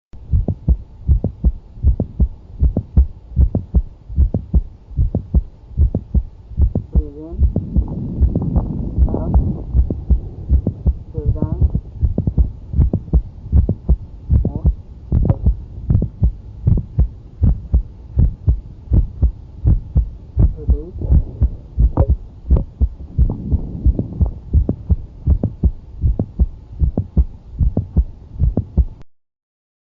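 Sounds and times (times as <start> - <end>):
heartbeats through stethoscope: 0.2 - 29.0
low hum: 0.2 - 29.1
heart valve click: 0.3 - 29.0.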